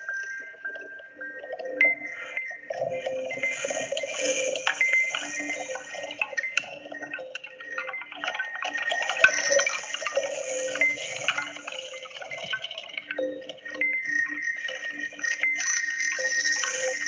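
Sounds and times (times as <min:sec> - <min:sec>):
drip-like clicks: 0:00.1 - 0:17.0.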